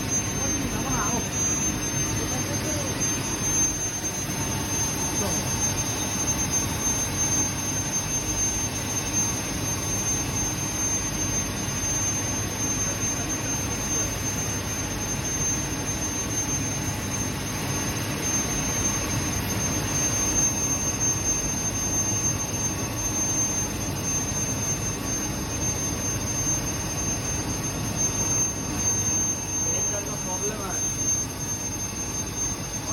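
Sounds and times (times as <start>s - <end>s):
high-pitched whine: 0.0s - 32.9s.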